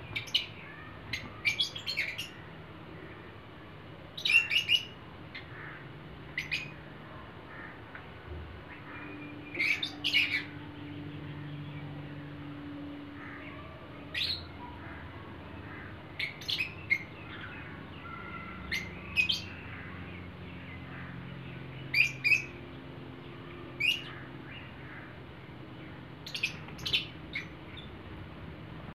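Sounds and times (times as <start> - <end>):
birds chirping high: 0.0 - 29.0.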